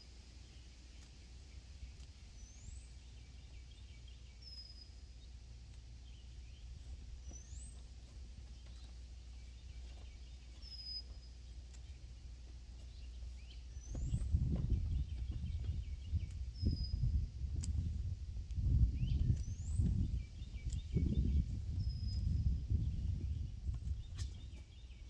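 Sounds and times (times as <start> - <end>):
low outdoor rumble: 0.0 - 25.0
low rustling noise: 0.0 - 25.0
songbird whistling: 0.5 - 5.4, 6.0 - 17.3, 18.9 - 25.0.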